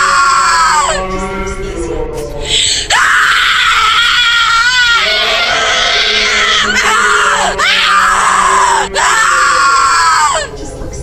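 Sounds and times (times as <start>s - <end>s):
high-pitched screaming: 0.0s - 1.7s, 2.5s - 10.6s.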